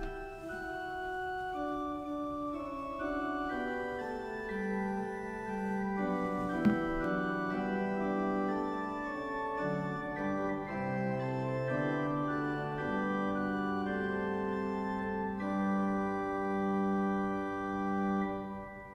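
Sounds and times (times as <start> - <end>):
organ playing sustained chords: 0.0 - 18.9.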